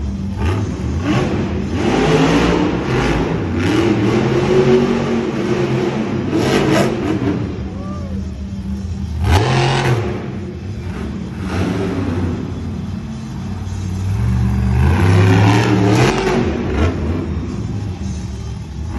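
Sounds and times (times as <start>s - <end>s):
truck engine revving: 0.0s - 18.9s.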